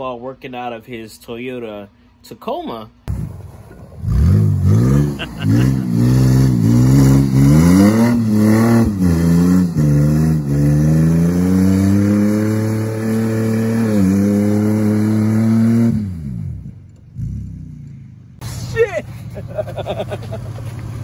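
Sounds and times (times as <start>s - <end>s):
truck engine revving: 3.1s - 21.0s.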